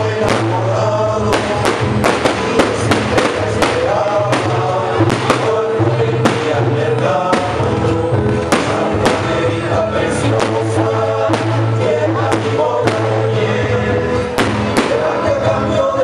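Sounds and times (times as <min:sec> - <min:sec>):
fireworks banging: 0:00.0 - 0:16.0
loud music with bass: 0:00.0 - 0:16.0.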